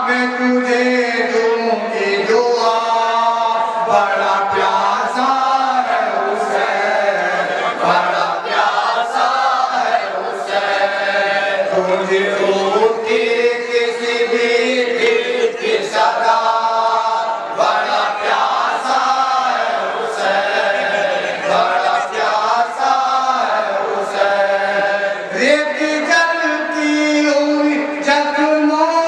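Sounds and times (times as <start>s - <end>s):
men chanting a lament: 0.0s - 29.0s.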